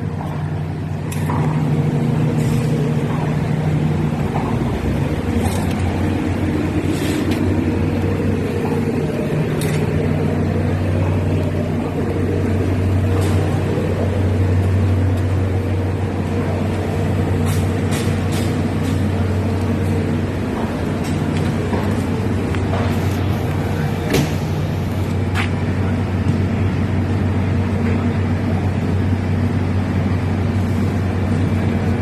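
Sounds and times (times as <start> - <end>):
heavy engine humming: 0.0 - 32.0.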